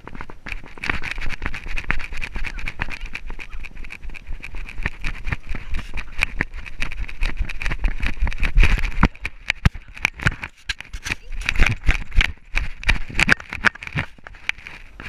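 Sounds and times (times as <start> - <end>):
camera harness knocking and rubbing: 0.0 - 15.0
low rumble of wind: 0.0 - 15.0.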